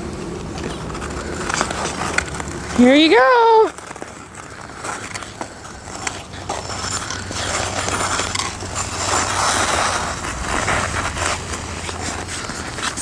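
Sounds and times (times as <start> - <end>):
ice skates scraping on ice: 0.6 - 13.0.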